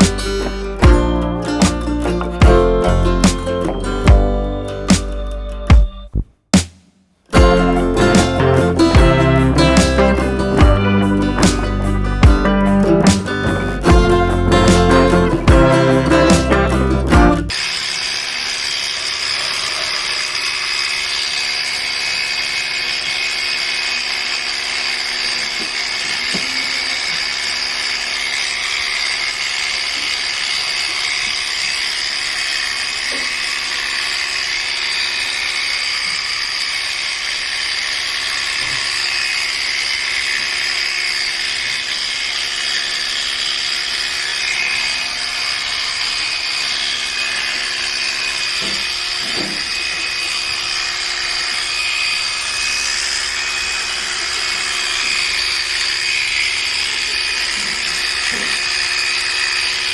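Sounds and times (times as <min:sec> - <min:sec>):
electric clippers whining: 0:00.0 - 0:06.2, 0:07.3 - 0:59.9.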